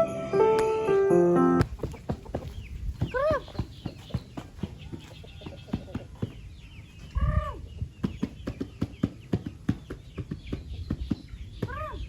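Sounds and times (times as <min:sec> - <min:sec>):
chickens clucking: 0:01.6 - 0:12.0.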